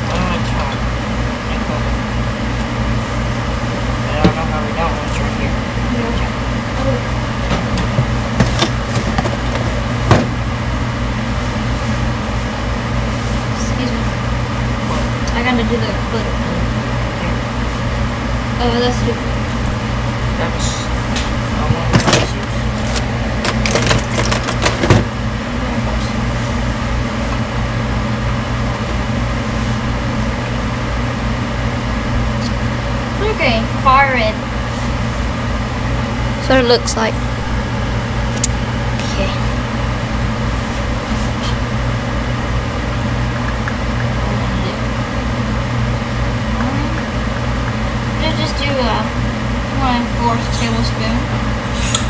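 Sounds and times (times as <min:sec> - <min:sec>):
steady machine hum: 0:00.0 - 0:52.0.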